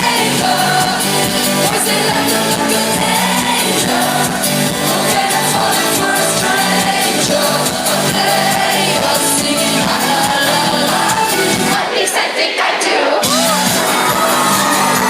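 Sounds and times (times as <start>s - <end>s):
electropop band music: 0.0s - 15.0s
woman singing: 0.0s - 15.0s.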